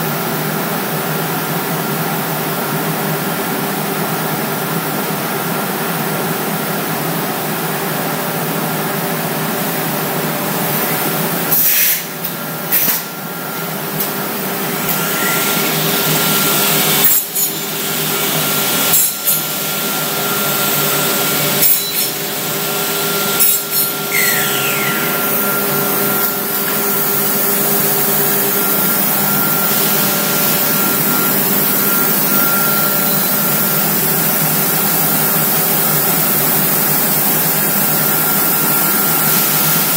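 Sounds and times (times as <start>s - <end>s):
constant machine hum: 0.0s - 39.9s
cnc machine cutting: 0.8s - 39.9s.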